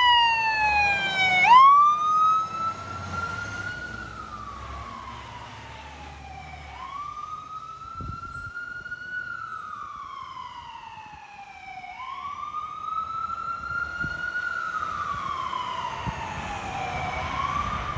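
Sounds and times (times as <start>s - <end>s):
fire engine siren wailing: 0.0s - 17.9s.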